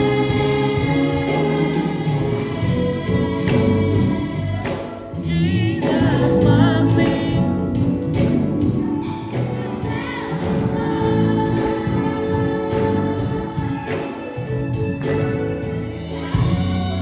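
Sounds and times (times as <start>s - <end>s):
gospel choir singing: 0.0s - 17.0s.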